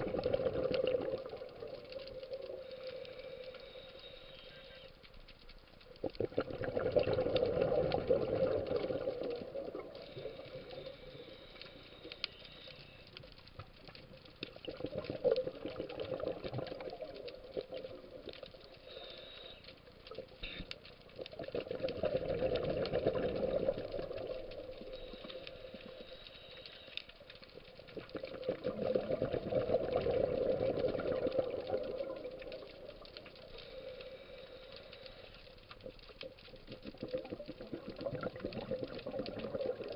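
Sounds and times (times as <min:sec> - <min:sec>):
exhaled bubbles gurgling underwater: 0:00.0 - 0:03.9, 0:05.9 - 0:12.8, 0:13.8 - 0:19.0, 0:19.6 - 0:26.3, 0:27.1 - 0:39.9.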